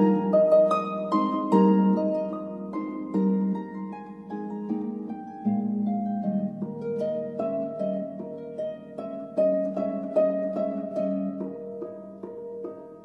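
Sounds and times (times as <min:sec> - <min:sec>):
harp-like plucked melody: 0:00.0 - 0:13.0.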